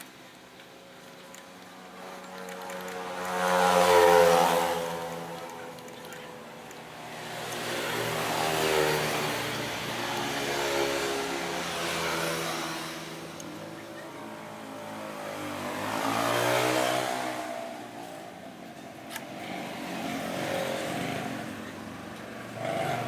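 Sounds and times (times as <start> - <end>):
road vehicles passing: 0.0 - 23.0.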